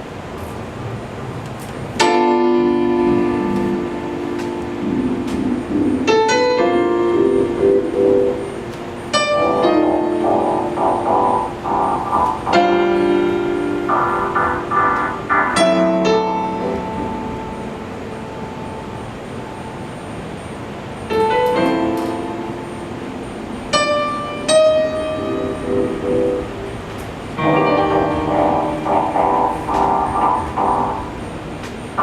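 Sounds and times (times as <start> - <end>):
piano notes and chords: 1.9 - 32.0.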